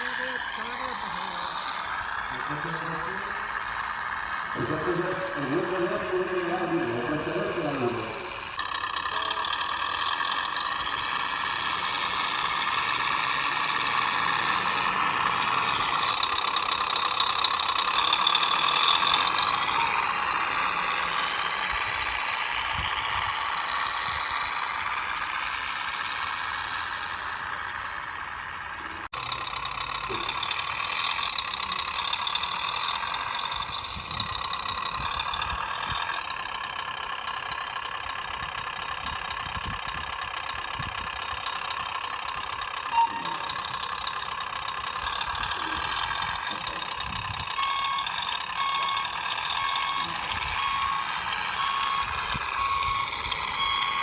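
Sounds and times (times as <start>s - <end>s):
radio control vehicle motors whining: 0.0s - 54.0s.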